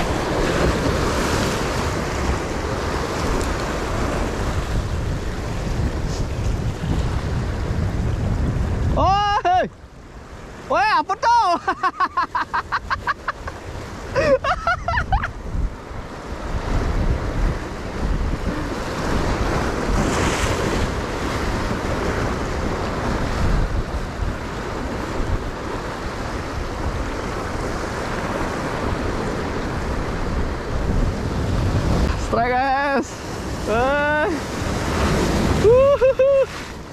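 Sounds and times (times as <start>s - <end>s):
surf breaking against rocks: 0.0s - 9.6s, 10.4s - 36.9s
wind buffeting microphone: 0.0s - 10.6s, 12.7s - 36.9s.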